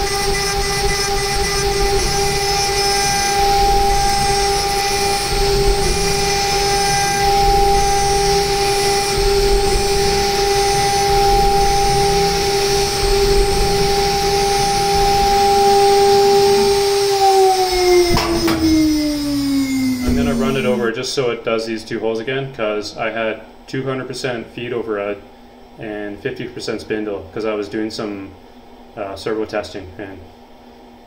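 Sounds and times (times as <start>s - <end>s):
milling spindle high whine: 0.0s - 25.2s.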